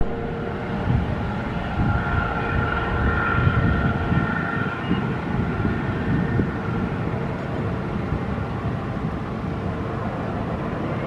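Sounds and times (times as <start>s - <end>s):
jet engines whining: 0.0s - 11.0s
wind buffeting microphone: 0.0s - 11.0s.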